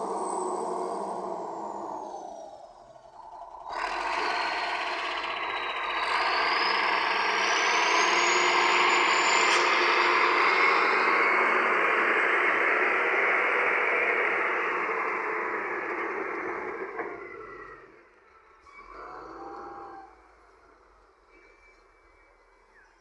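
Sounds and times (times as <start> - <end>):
high whine climbing in pitch: 0.0 - 19.1
diesel engine running under load: 0.0 - 22.8.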